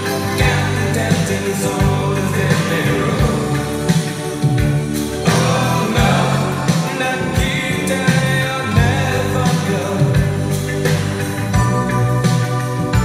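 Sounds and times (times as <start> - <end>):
person singing: 0.0 - 11.6
music with drum beat: 0.0 - 13.0.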